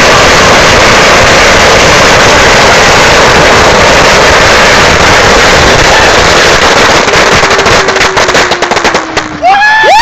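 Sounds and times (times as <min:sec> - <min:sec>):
firecrackers in steel dumpster: 0:00.0 - 0:09.6.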